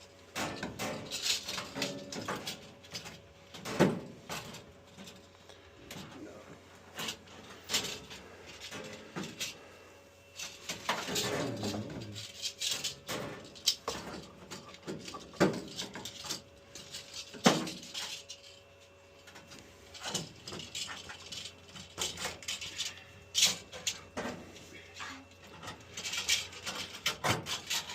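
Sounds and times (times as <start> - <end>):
clicks and knocks of parts handled: 0.3 - 6.2, 6.9 - 9.6, 10.4 - 24.4, 25.0 - 27.9.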